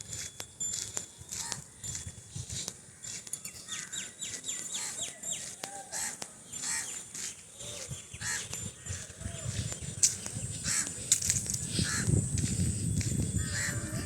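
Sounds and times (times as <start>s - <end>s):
birds chirping: 0.8s - 14.0s.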